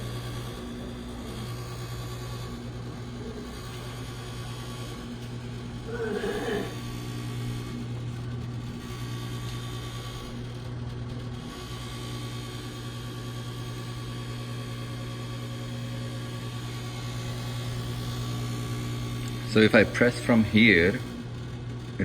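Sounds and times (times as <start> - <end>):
microwave oven vibrating hum: 0.0 - 22.0.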